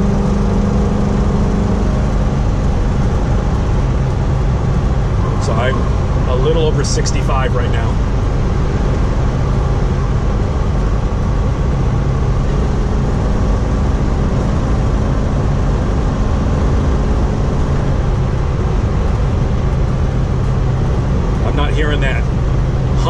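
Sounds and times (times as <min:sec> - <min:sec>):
engine drone: 0:00.0 - 0:23.0
tyre road noise: 0:00.0 - 0:23.0.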